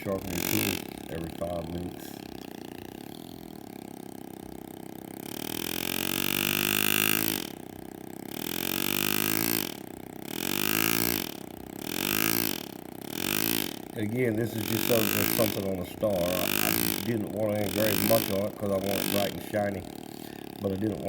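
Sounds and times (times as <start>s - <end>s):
faint steady hum: 0.0s - 21.0s
pneumatic engraver buzzing: 0.0s - 21.0s.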